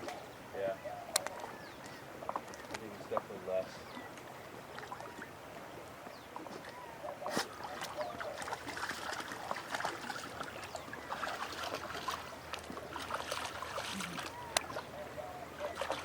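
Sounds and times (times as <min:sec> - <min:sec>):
creek water trickling: 0:00.0 - 0:16.0.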